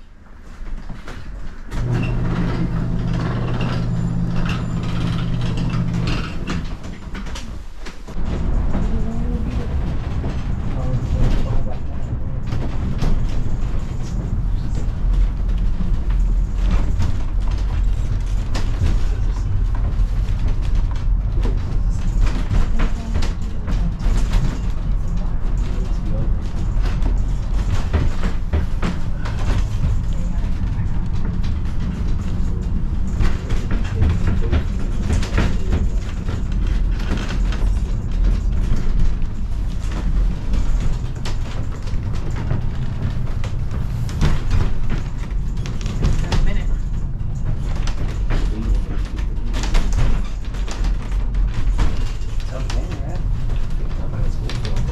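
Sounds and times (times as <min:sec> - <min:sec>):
funicular car rumbling: 0:00.0 - 0:54.9
clicks and knocks from rails: 0:00.5 - 0:54.9.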